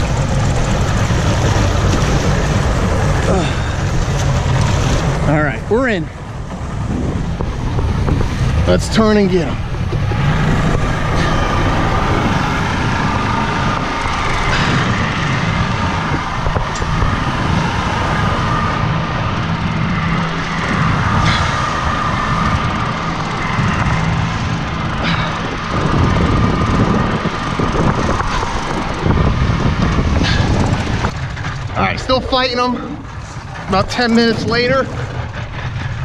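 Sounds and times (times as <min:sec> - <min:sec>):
boat engine running: 0:00.0 - 0:36.0
water rushing along hull: 0:00.0 - 0:36.0
wind on microphone: 0:00.0 - 0:36.0.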